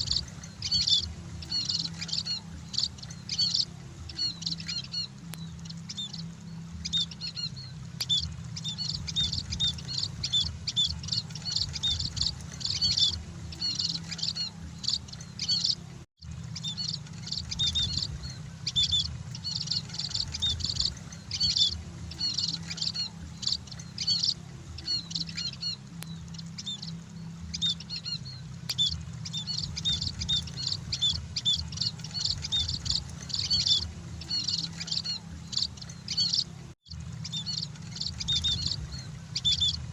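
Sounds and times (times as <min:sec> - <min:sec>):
flock of birds chirping: 0:00.0 - 0:39.9
steady low hum: 0:00.0 - 0:39.9.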